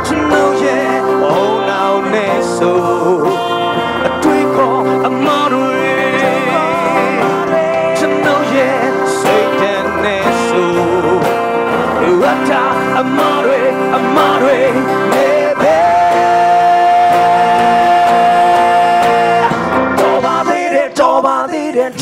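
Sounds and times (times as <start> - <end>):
acoustic guitar: 0.0 - 22.0
keyboard: 0.0 - 22.0
man singing: 0.0 - 22.0.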